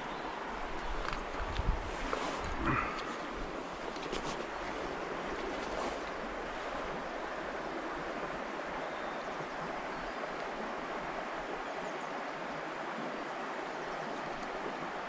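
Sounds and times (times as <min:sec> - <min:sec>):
river water flowing over rocks: 0:00.0 - 0:15.0.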